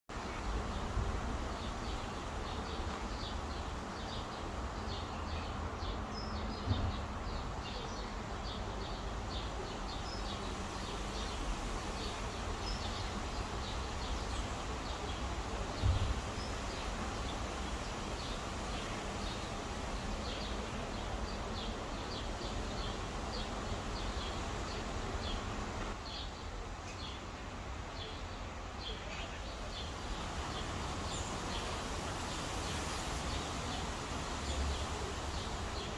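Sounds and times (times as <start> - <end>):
outdoor background noise: 0.1 - 35.9
small birds chirping: 0.2 - 35.9.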